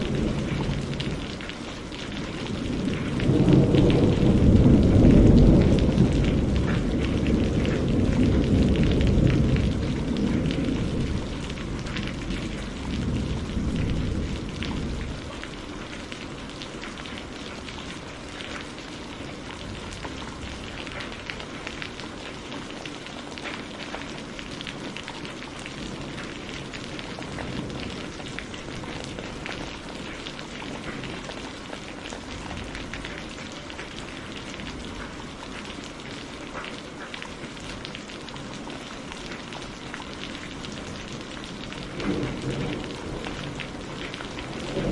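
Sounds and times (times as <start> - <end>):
thunder rumbling: 0.0 - 22.4, 23.5 - 35.5, 39.2 - 44.9
steady rain falling: 0.0 - 44.9.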